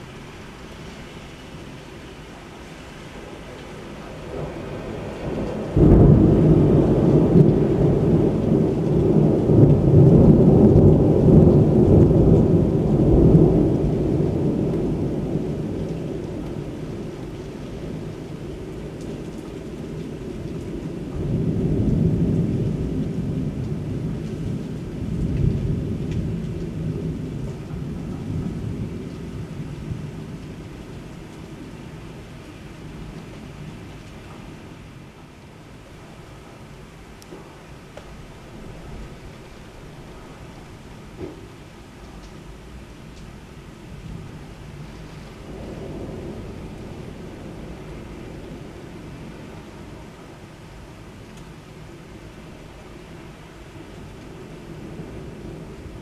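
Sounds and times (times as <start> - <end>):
steady rain: 0.0 - 56.0
thunder cracking and rumbling: 3.5 - 34.0, 37.2 - 51.9.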